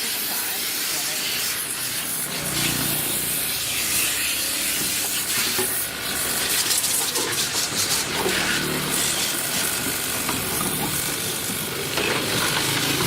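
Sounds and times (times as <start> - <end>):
spray jet hissing: 0.5 - 12.0.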